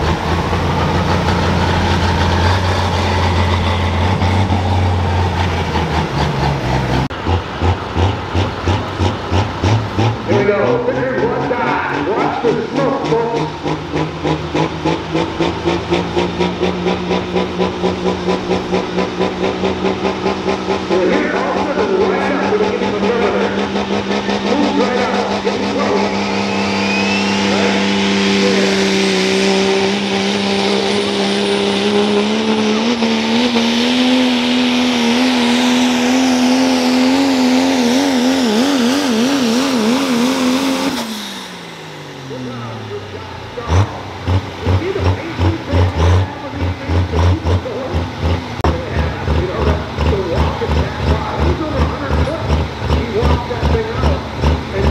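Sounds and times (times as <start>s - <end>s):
diesel truck engine revving: 0.0s - 54.9s.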